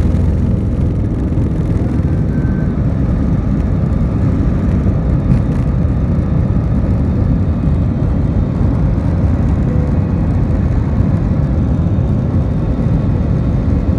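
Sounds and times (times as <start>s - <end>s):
airliner engines rumbling: 0.0s - 13.9s.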